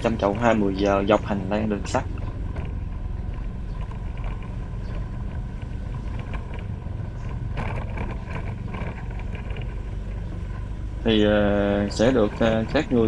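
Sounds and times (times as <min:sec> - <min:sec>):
motorbike engine rumble: 0:00.0 - 0:13.0
wind buffeting microphone: 0:00.0 - 0:13.0.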